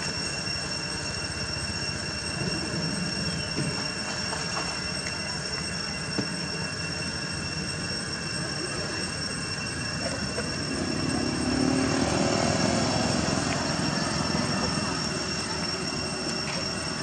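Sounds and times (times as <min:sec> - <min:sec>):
high steady whine: 0:00.0 - 0:17.0
low drone: 0:00.0 - 0:17.0.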